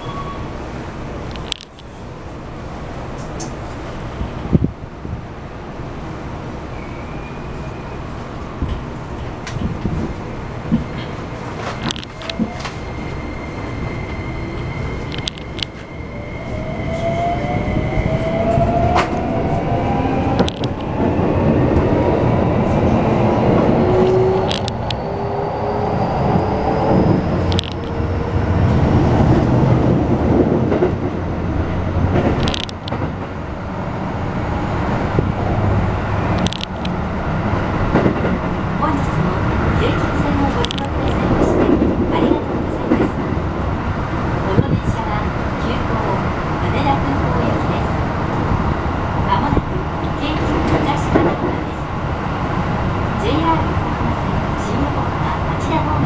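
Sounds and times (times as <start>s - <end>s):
wheels rumbling over rails: 8.1s - 56.0s.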